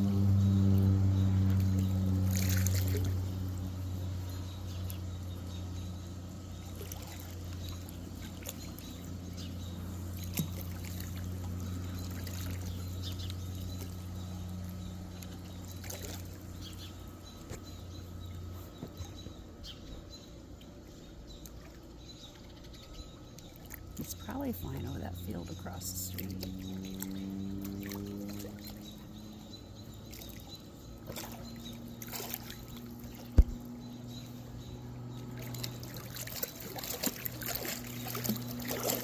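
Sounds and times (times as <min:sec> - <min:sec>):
propeller airplane engine drone: 0:00.0 - 0:39.0.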